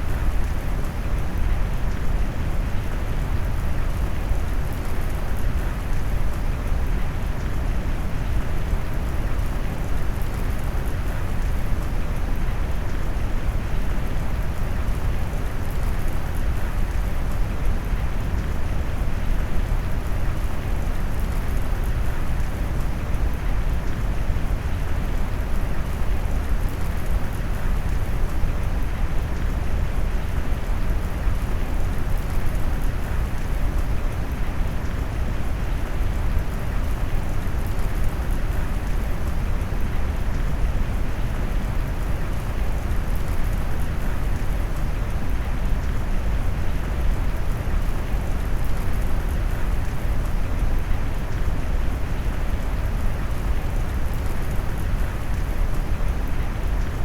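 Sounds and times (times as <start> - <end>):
brown noise hiss: 0.0 - 57.0
steady rain: 0.0 - 57.0.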